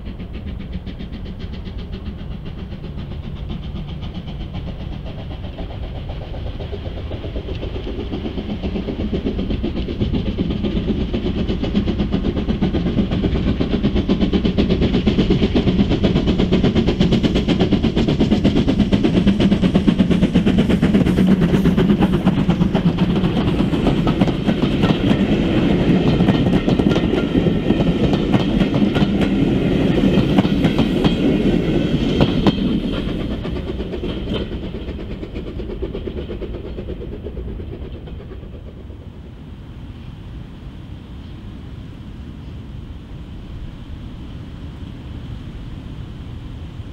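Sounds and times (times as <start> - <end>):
train wheels clattering over rail joints: 0.0 - 39.2.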